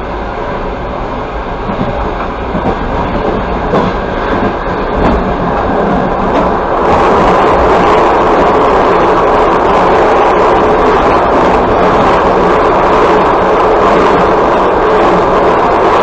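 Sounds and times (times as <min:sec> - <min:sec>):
train rumbling at speed: 0:00.0 - 0:16.0.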